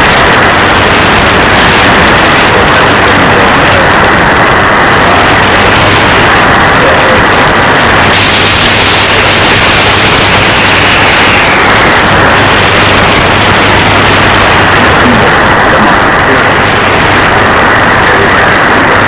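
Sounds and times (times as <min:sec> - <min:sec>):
radio static and interference: 0:00.0 - 0:19.0.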